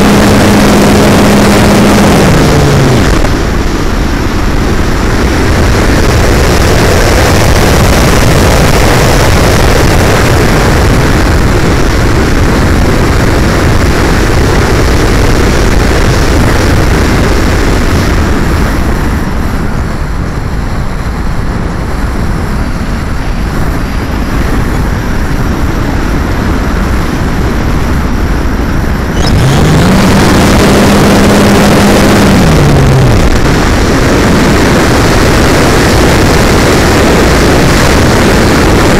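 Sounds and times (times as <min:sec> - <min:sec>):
electric motor and propeller hum: 0:00.0 - 0:38.9
rush of air over glider: 0:00.0 - 0:38.9.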